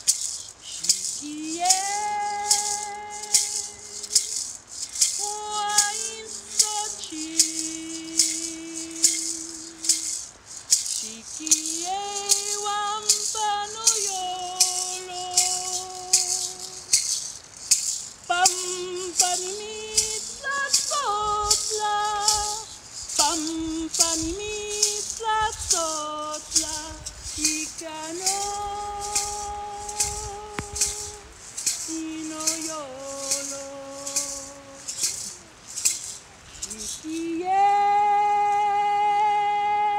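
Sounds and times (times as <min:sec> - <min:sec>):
woman singing long held notes: 0:00.0 - 0:17.1, 0:18.2 - 0:35.6, 0:36.4 - 0:39.9
hand rattle shaken: 0:00.0 - 0:39.1.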